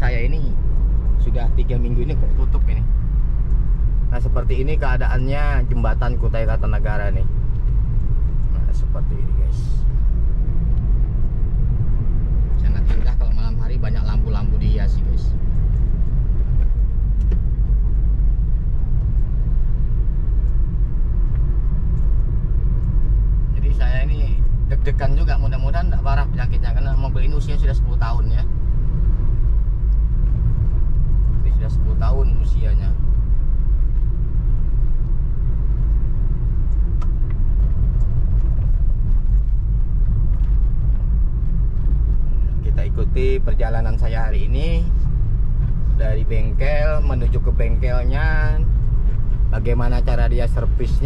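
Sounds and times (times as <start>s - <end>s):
car engine and road noise: 0.0s - 51.0s.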